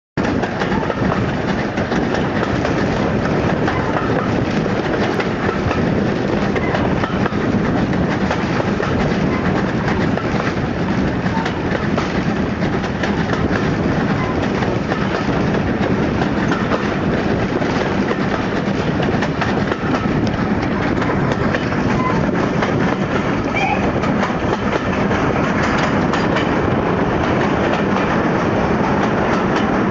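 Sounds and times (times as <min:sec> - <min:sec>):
loud rush of noise: 0:00.2 - 0:29.9
train wheels clattering over rail joints: 0:00.2 - 0:29.9.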